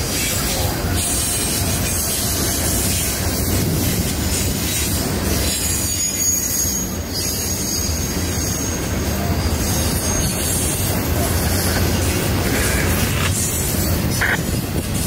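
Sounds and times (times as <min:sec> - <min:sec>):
train wheels rumbling on rails: 0:00.0 - 0:15.0
high wheel squeal: 0:00.2 - 0:15.0.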